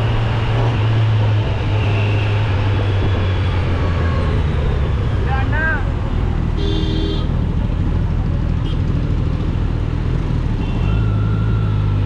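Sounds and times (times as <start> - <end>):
motorcycle engine drone: 0.0 - 12.0.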